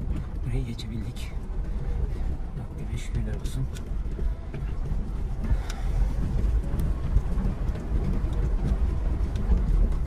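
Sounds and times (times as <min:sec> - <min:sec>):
engine and tyres rumbling: 0:00.0 - 0:10.0
gravel crunching: 0:00.0 - 0:10.0.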